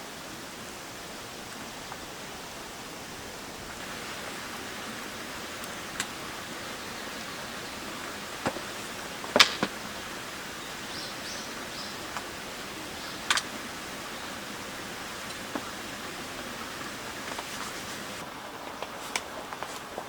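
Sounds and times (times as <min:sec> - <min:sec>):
drizzle hissing: 0:00.0 - 0:18.2
wind in forest: 0:00.0 - 0:20.0.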